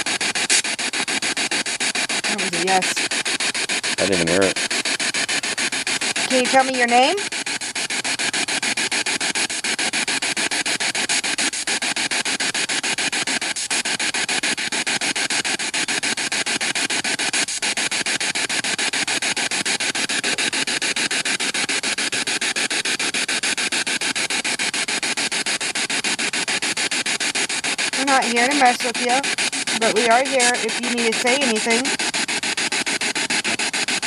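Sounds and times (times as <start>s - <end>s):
pulsing radio static hiss: 0.0s - 34.0s.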